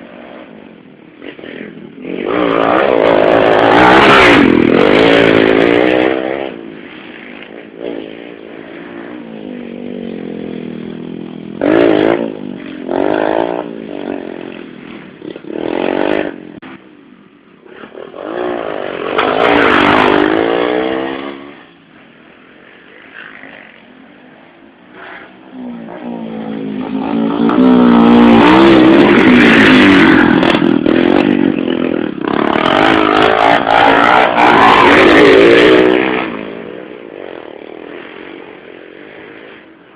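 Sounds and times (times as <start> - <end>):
motorcycle engines revving and passing: 0.0 - 39.9.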